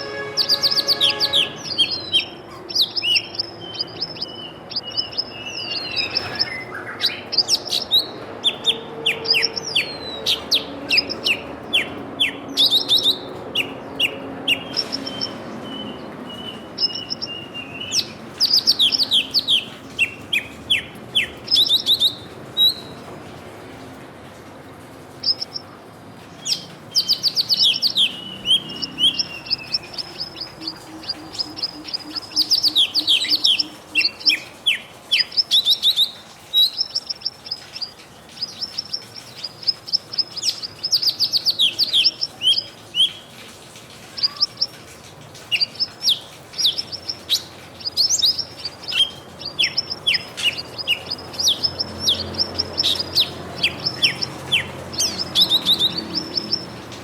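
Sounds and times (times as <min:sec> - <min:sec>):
birds chirping and twittering: 0:00.0 - 0:23.6, 0:24.7 - 0:57.0.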